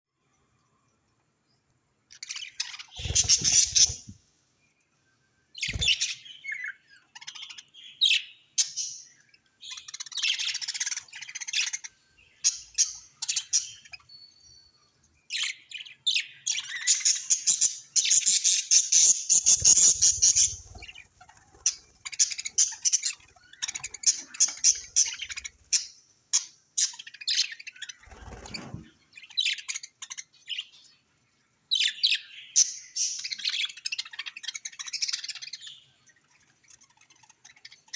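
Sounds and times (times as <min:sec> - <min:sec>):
birds chirping and squawking: 0:02.1 - 0:04.4, 0:05.6 - 0:31.1, 0:31.7 - 0:37.9.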